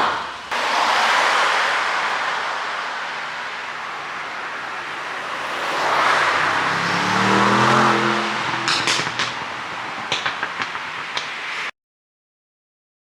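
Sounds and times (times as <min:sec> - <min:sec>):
car engine revving: 0:00.5 - 0:11.7
exhaust pops and crackles: 0:00.5 - 0:11.7.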